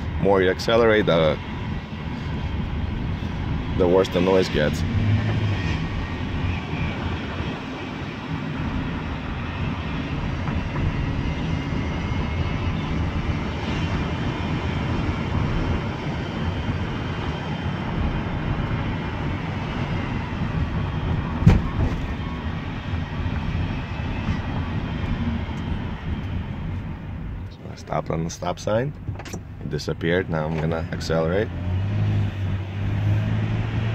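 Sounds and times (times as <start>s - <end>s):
differential whine: 0.0s - 31.4s
road and engine noise: 0.0s - 33.9s.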